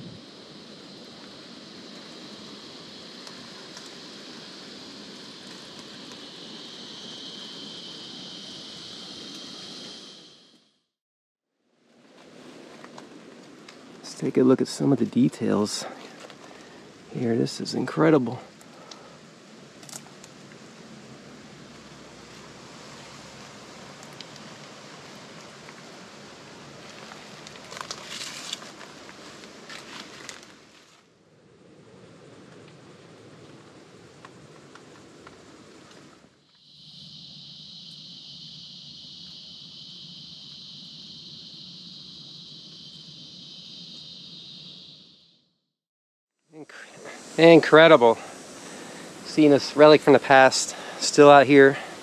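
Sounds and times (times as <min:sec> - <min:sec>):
woodland ambience hiss: 0:00.0 - 0:10.9, 0:11.6 - 0:45.6, 0:46.4 - 0:52.0
insects droning: 0:00.0 - 0:11.0, 0:11.6 - 0:45.8, 0:46.4 - 0:52.0.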